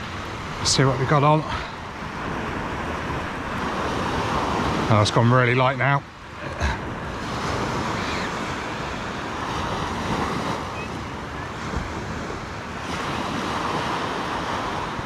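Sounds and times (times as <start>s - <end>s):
wind on microphone: 0.0s - 5.2s, 6.3s - 15.0s
small waves breaking on beach: 0.0s - 15.0s.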